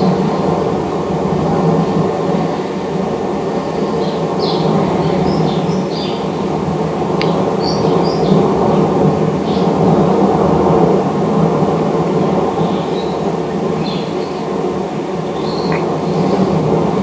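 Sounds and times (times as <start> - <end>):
volcano low rumble: 0.0 - 17.0.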